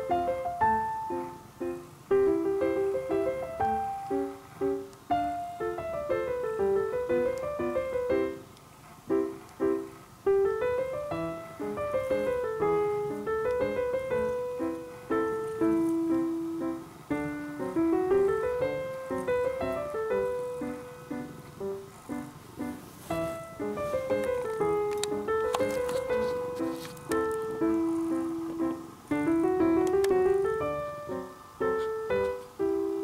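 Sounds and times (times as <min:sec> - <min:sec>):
solo piano waltz: 0:00.0 - 0:33.0.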